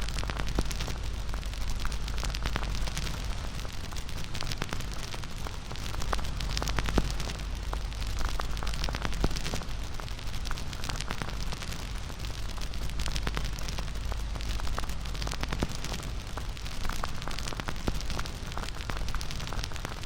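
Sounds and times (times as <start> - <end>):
rumble and hiss of flames: 0.0 - 20.0
wood fire crackling: 0.0 - 20.0.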